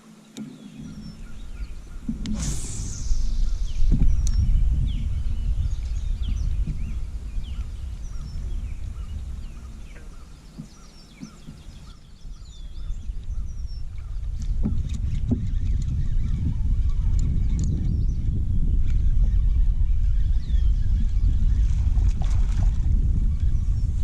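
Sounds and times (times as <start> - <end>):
small birds chirping: 0.0 - 21.8
low uneven rumble: 0.5 - 24.0.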